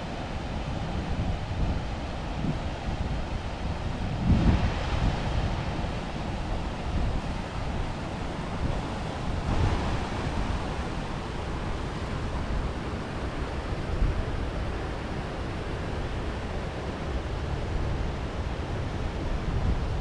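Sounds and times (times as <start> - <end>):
river water rushing: 0.0 - 20.0
wind buffeting microphone: 0.4 - 20.0.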